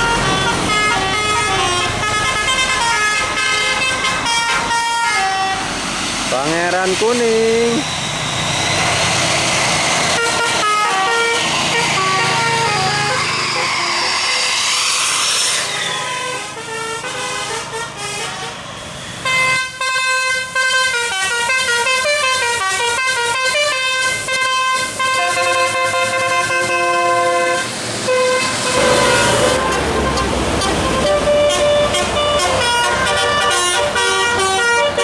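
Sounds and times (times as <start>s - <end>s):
musical bus air horn: 0.0s - 5.9s, 10.1s - 35.0s
vehicle noise: 0.0s - 35.0s.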